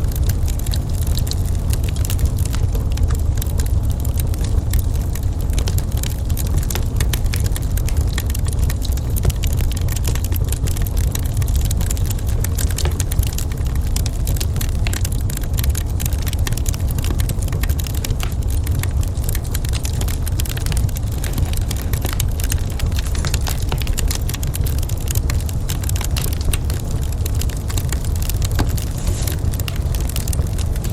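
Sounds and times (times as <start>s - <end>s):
steady low rumble: 0.0s - 30.9s
wood fire crackling: 0.0s - 30.9s.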